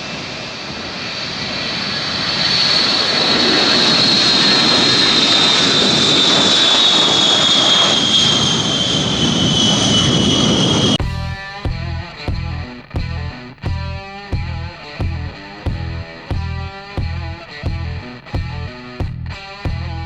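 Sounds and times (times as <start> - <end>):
jet engines whining: 0.0 - 19.7.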